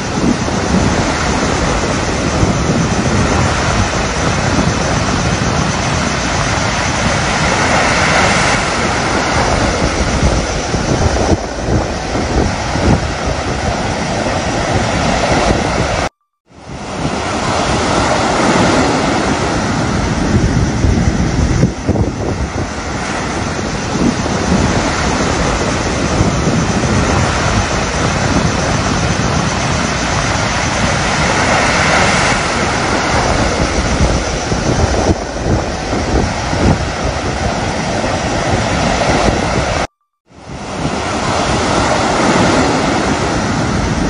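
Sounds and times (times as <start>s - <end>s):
waves breaking on beach: 0.0s - 44.0s
wind rumbling on microphone: 0.0s - 44.0s.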